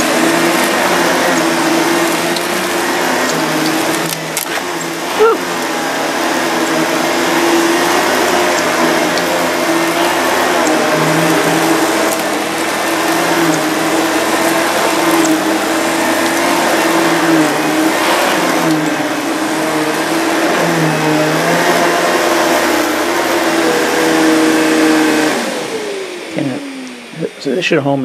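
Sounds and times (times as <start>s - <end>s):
motor winding down whine: 0.0s - 28.0s
vacuum cleaner running: 0.0s - 28.0s.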